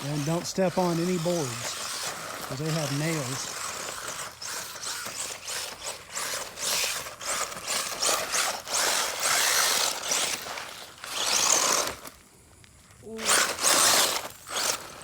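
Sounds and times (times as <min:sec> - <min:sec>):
toy truck motor whirring: 0:00.0 - 0:12.3, 0:12.9 - 0:15.0
tyres rattling over rocks: 0:00.0 - 0:12.3, 0:13.2 - 0:15.0.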